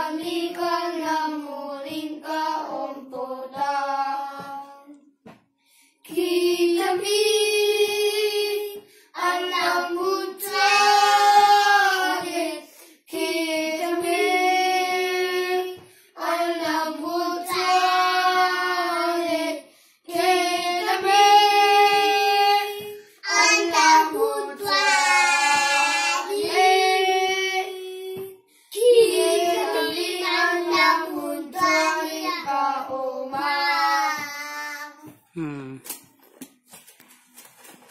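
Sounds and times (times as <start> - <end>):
children singing a hymn: 0.0 - 4.9, 6.1 - 35.0.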